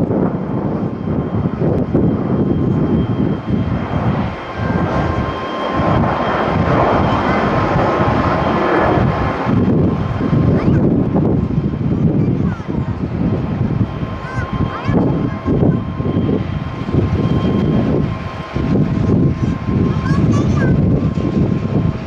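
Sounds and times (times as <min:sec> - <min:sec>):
faint jet whine: 0:00.0 - 0:22.0
jet engine roar: 0:00.0 - 0:22.0
wind buffeting microphone: 0:00.0 - 0:22.0.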